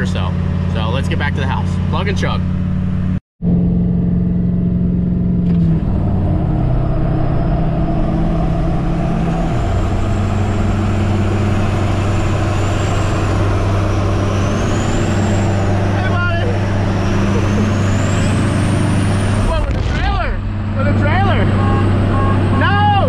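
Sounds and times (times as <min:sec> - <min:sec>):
road and wind noise: 0:00.0 - 0:23.0
truck engine drone: 0:00.0 - 0:23.0.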